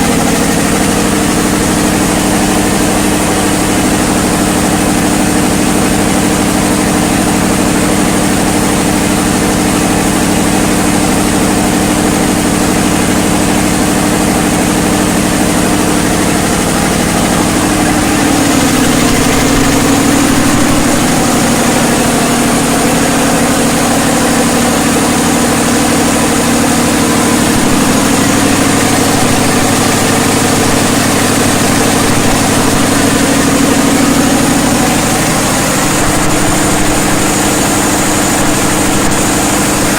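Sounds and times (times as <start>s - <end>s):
diesel generator drone: 0.0s - 39.9s.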